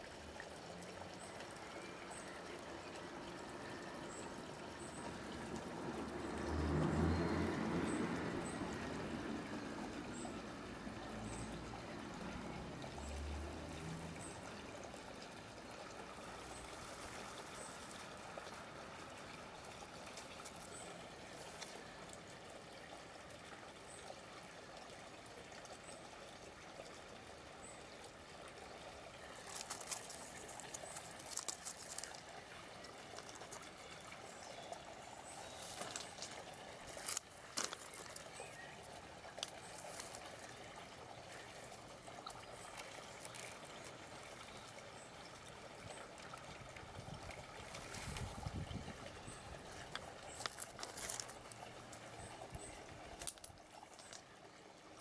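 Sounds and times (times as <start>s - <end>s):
water-like rushing noise: 0.0s - 55.0s.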